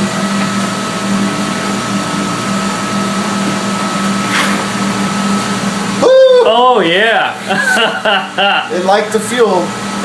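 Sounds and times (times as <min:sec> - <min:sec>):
engine droning under load: 0:00.0 - 0:10.0.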